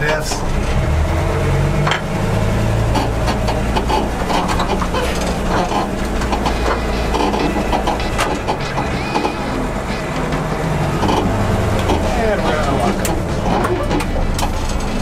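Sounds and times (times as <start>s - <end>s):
truck engine droning under load: 0.0s - 15.0s
knocks and clanks: 1.8s - 15.0s.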